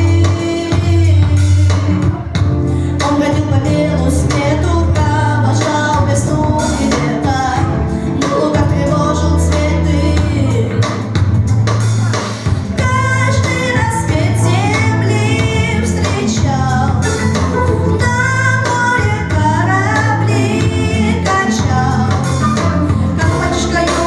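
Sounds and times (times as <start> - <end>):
instrumental accompaniment with bass: 0.0 - 24.0
person singing with vibrato: 0.0 - 24.0.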